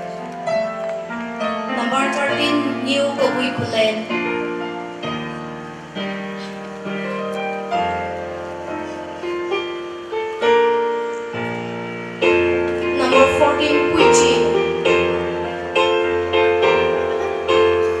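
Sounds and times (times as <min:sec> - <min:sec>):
electronic keyboard playing slow chords: 0:00.0 - 0:18.0.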